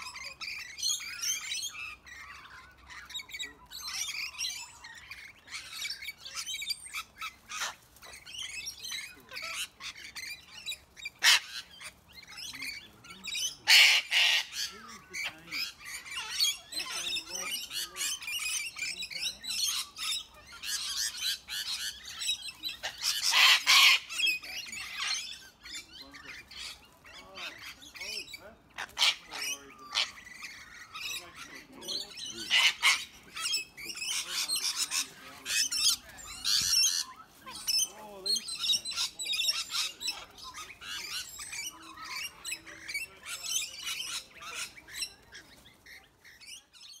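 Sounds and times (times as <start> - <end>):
parrots squawking and chattering: 0.0 - 47.0.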